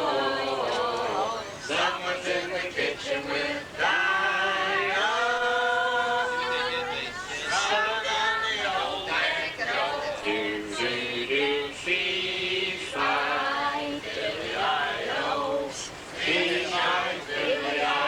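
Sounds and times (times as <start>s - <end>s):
group singing without instruments: 0.0s - 18.0s.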